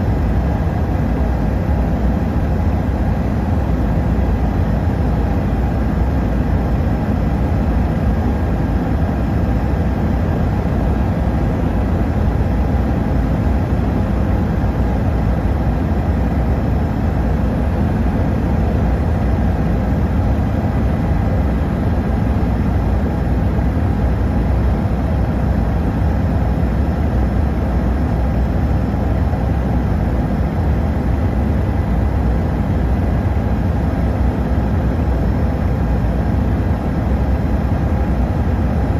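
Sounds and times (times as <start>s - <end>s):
faint high whine: 0.0s - 38.9s
helicopter drone: 0.0s - 38.9s.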